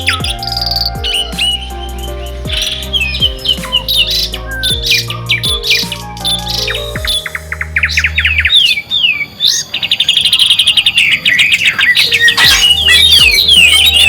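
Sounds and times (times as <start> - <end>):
low background music: 0.0 - 9.6, 11.8 - 14.0
songbird chirping and trilling: 0.0 - 14.0.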